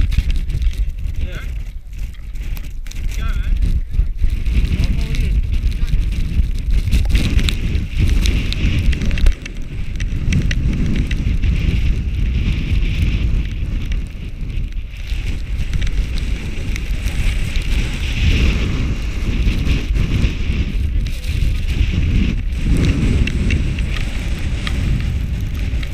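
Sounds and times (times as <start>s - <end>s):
strong wind on microphone: 0.0s - 25.9s
snowboard scraping over snow: 3.2s - 25.9s.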